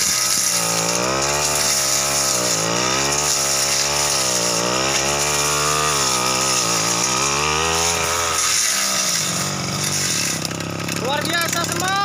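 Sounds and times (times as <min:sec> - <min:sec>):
brush cutter engine cutting scrub: 0:00.0 - 0:12.0.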